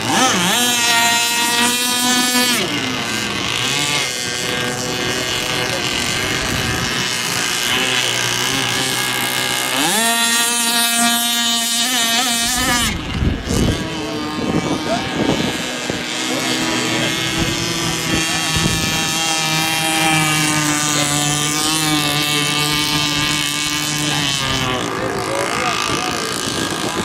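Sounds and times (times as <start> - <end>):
wind buffeting microphone: 0.0 - 9.6, 12.3 - 27.0
rc boat engine at high revs: 0.0 - 27.0.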